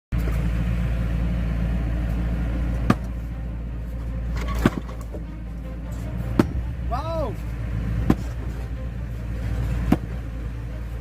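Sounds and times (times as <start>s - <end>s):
engine running: 0.1s - 11.0s.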